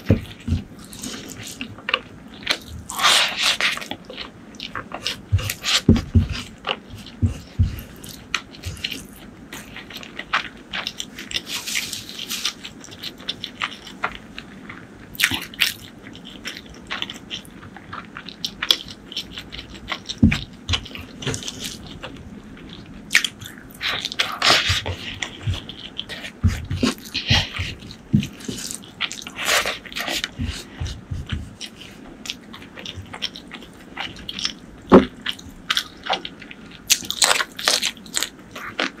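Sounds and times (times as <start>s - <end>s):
close chewing with wet mouth clicks: 0.0s - 39.0s.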